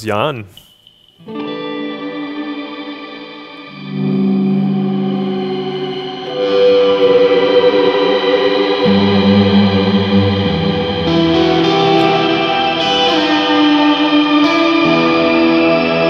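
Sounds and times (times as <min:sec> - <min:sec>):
electric guitar playing: 0:01.2 - 0:16.0.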